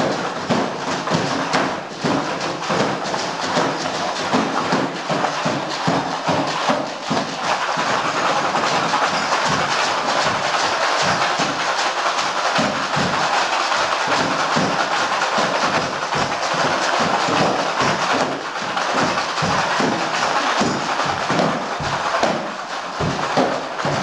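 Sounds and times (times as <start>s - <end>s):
cardboard box drums thudding: 0.0s - 11.6s, 14.0s - 24.0s.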